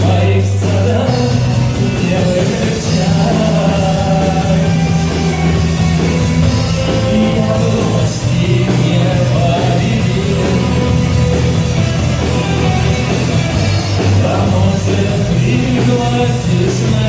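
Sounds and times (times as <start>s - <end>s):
person singing: 0.0s - 11.6s, 12.2s - 17.0s
bass guitar: 0.0s - 17.0s
rock band playing live: 0.0s - 17.0s.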